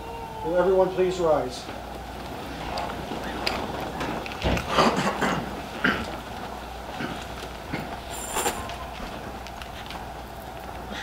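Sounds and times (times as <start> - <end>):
chairs creaking and scraping: 1.6 - 11.0.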